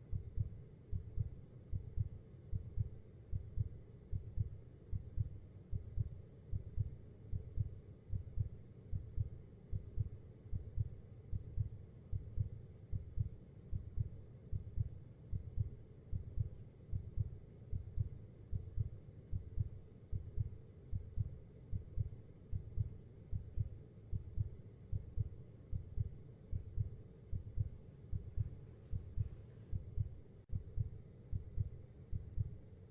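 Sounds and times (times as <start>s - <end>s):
heartbeat thumps: 0.1s - 32.6s.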